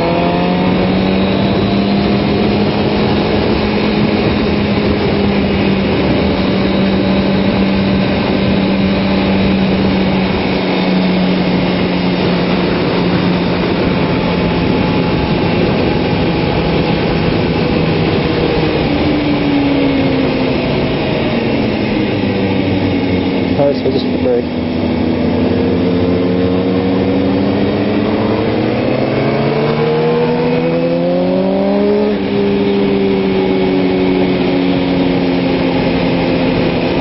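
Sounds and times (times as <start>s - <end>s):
motorcycle engine running: 0.0s - 37.0s
wind rush: 0.0s - 37.0s.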